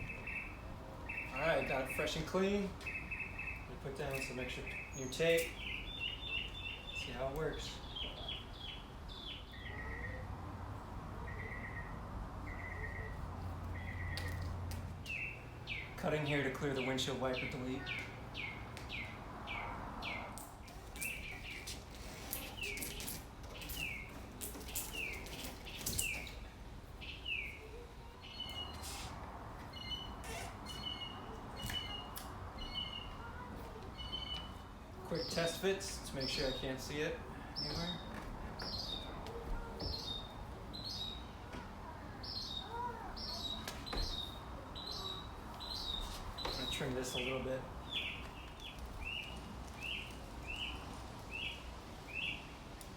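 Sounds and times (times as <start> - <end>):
bird chirping: 0.0 - 10.3, 11.2 - 29.1, 29.7 - 41.4, 42.2 - 52.6.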